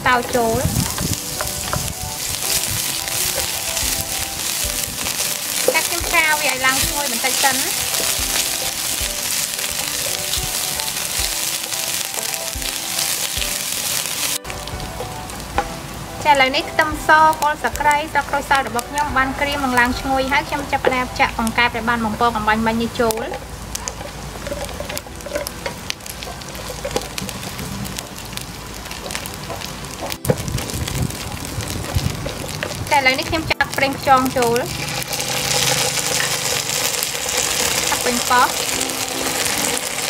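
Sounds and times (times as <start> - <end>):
food sizzling in hot oil: 0.0 - 40.0
soft background music: 0.0 - 40.0
spatula stirring in pan: 0.3 - 15.7, 23.1 - 40.0.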